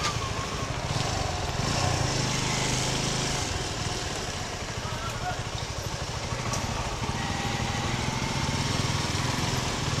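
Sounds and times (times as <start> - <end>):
auto-rickshaw engine running: 0.0 - 10.0
motorcycle engine low rumble: 0.0 - 10.0.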